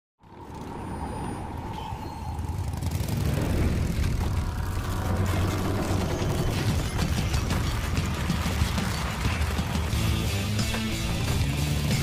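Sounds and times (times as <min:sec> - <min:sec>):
deep engine rumble: 0:00.2 - 0:11.4.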